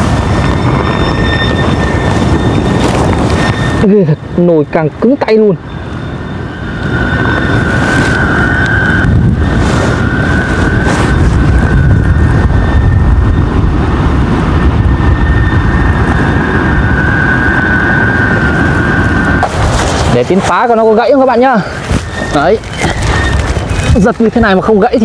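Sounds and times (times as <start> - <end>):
flute kite humming: 0.0 - 25.0
gusty wind buffeting microphone: 0.0 - 25.0.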